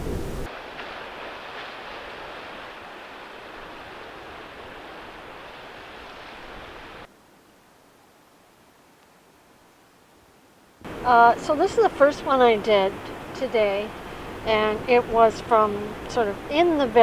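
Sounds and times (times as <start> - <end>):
steady rushing noise: 0.0 - 7.6, 10.8 - 17.0
faint background hiss: 0.0 - 17.0.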